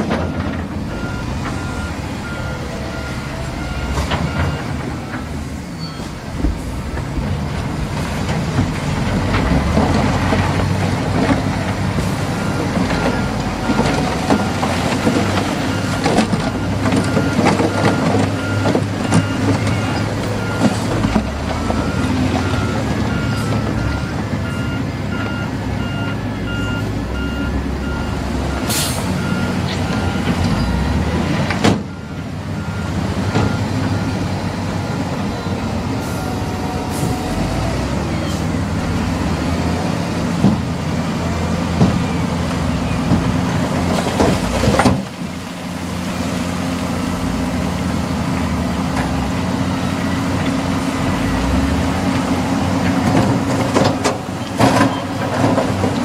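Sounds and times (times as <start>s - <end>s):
truck reversing beeper: 0.0s - 7.0s, 11.2s - 40.0s, 46.1s - 56.0s
heavy diesel engines running: 0.0s - 56.0s.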